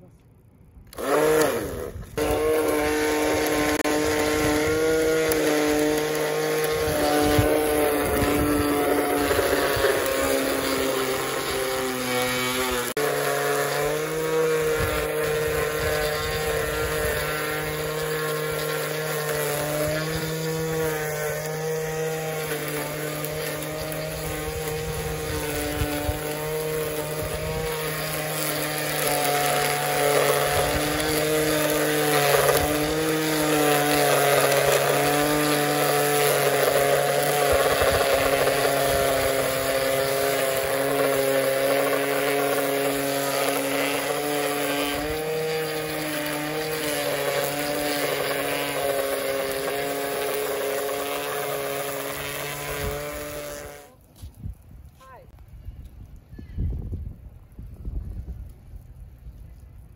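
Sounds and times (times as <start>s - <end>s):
string trimmer motor whine: 0.0s - 54.2s.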